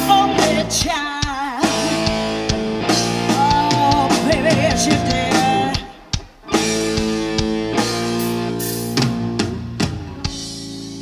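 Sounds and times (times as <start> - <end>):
bass guitar: 0.0 - 11.0
blues-rock band playing: 0.0 - 11.0
drums: 0.0 - 11.0
electric lead guitar: 0.0 - 11.0.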